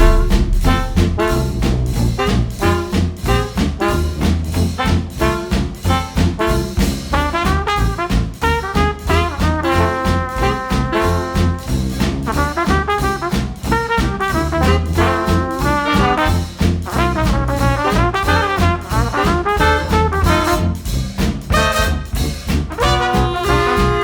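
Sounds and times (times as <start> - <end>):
swing jazz with brass: 0.0 - 24.0.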